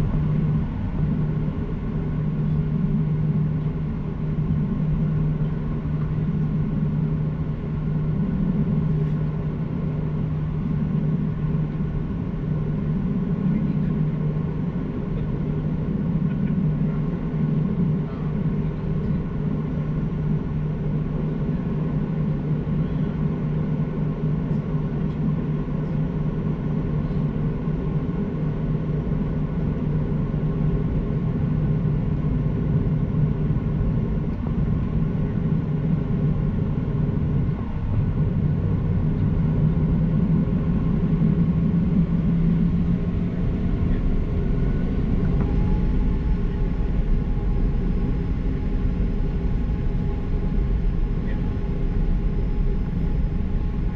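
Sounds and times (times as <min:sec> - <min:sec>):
airplane cabin engine drone: 0:00.0 - 0:53.9.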